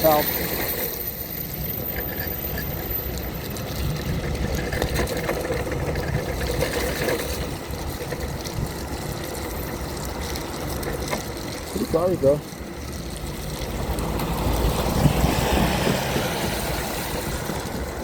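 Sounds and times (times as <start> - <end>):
tyres hissing on wet road: 0.0 - 18.0
wheelchair motors rumbling: 0.0 - 18.0.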